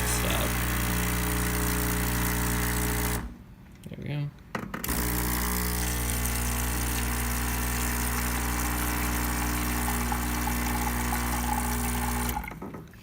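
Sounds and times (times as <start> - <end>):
espresso machine pump humming: 0.0 - 3.3, 4.9 - 12.4.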